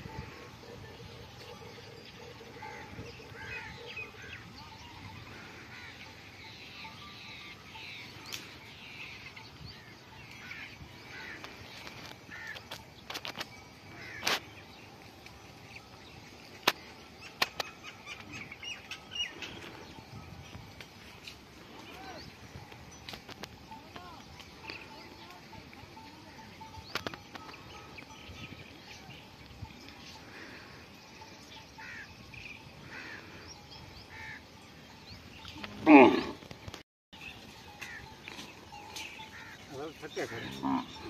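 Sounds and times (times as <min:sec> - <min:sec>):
small birds chirping: 0:02.3 - 0:41.0.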